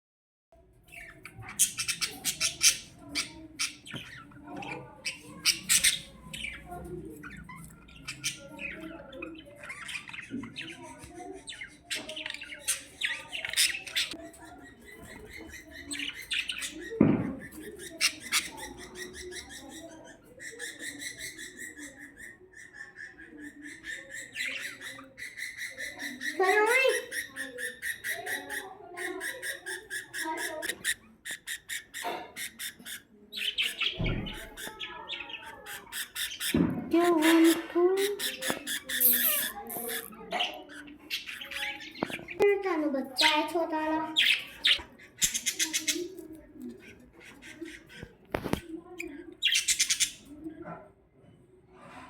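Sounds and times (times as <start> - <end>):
budgerigars chirping and squawking: 0.7 - 50.5
fast chattering warble: 0.8 - 50.4.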